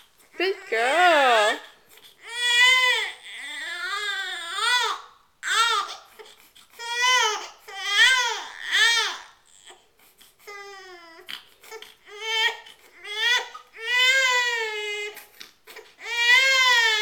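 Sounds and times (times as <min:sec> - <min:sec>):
infant crying: 0:00.4 - 0:17.0.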